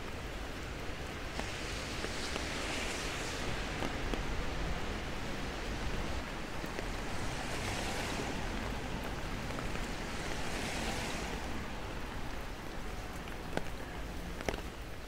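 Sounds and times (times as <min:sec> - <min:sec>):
car tyres hissing on wet road: 0:00.0 - 0:15.0
steady rain: 0:00.0 - 0:15.0.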